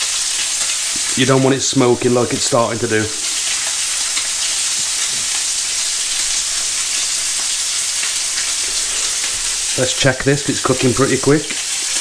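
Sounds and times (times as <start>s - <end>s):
fish sizzling in grill pan: 0.0s - 12.0s.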